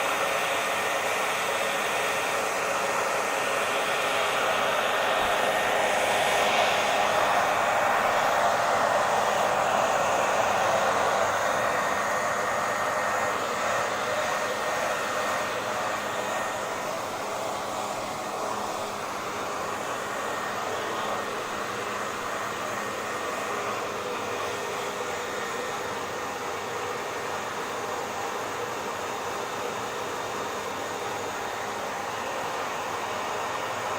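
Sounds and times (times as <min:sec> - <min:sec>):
hair dryer blowing: 0:00.0 - 0:33.9.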